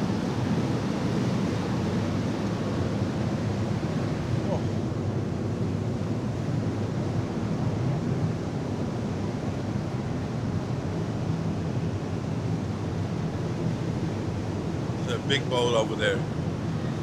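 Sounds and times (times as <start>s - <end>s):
boat rumble and water wash: 0.0s - 17.0s.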